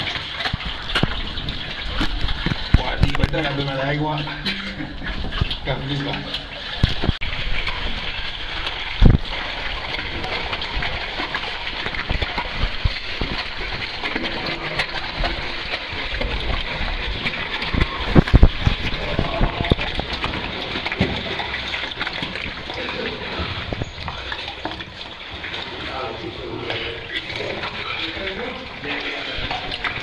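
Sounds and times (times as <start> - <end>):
water splashing and rushing: 0.0 - 30.0.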